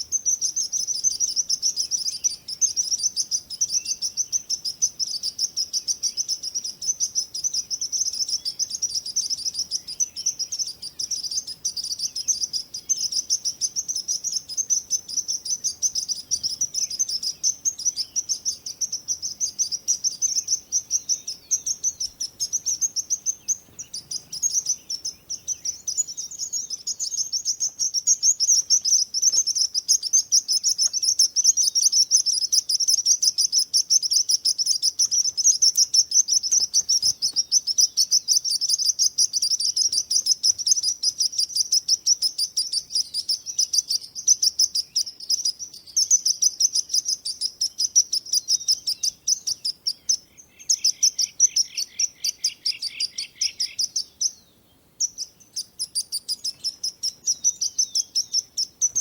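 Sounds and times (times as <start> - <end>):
lower bird chirps: 0.0 - 59.0.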